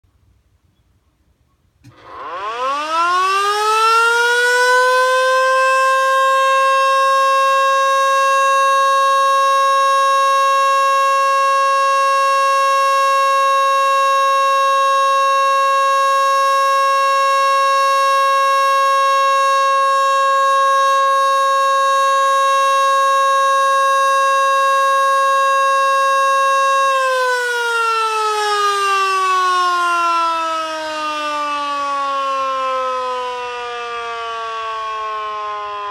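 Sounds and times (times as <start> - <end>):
mechanical motor siren wailing: 1.9 - 35.9.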